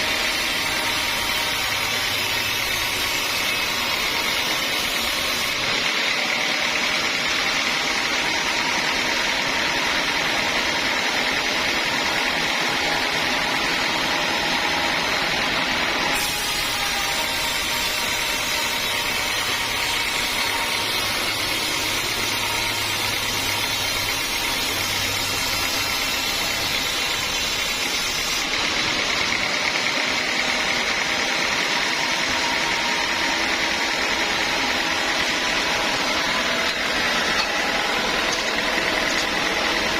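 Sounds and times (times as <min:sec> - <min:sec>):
band saw cutting logs: 0:00.0 - 0:39.9.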